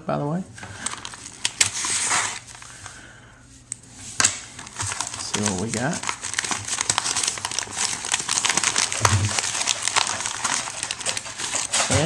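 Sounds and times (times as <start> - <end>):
plastic envelope crinkling: 0.6 - 3.0, 4.2 - 12.0.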